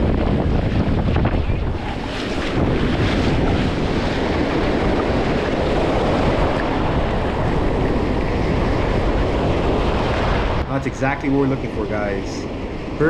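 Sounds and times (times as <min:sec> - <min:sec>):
surf rushing on beach: 0:00.0 - 0:13.0
wind buffeting microphone: 0:00.0 - 0:13.0.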